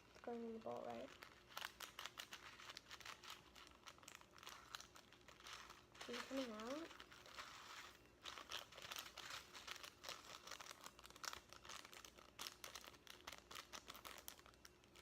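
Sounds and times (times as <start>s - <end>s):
beads crinkling into bowl: 0.0s - 15.0s.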